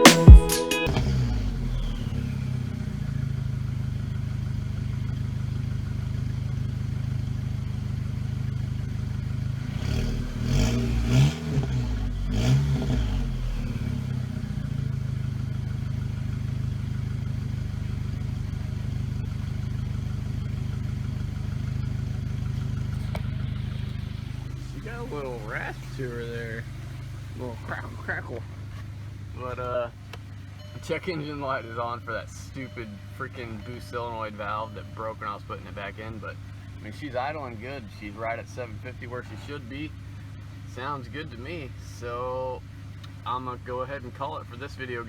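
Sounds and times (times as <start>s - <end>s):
car engine idling: 0.0s - 45.0s
engine revving with exhaust crackle: 0.9s - 45.0s.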